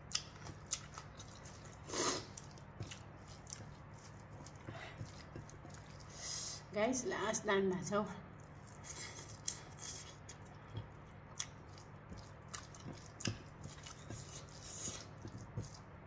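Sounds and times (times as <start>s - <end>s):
mouth chewing food: 0.0s - 6.7s, 8.3s - 16.0s
fingers mixing food in bowl: 0.0s - 7.4s, 8.3s - 16.0s.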